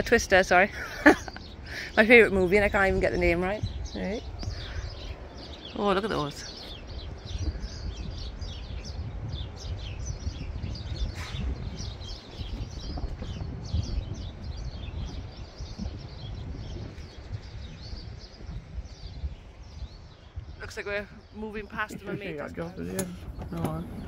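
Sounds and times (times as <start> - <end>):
small birds chirping: 0.0 - 24.0
wind buffeting microphone: 0.0 - 24.0.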